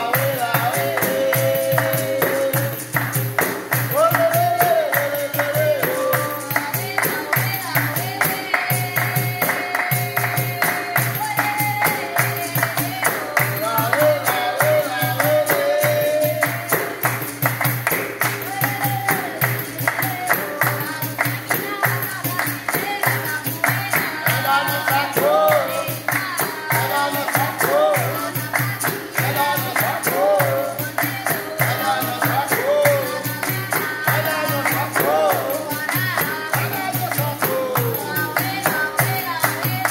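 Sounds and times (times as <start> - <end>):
hand claps: 0.0 - 39.9
hand percussion: 0.0 - 39.9
voices singing: 0.0 - 39.9.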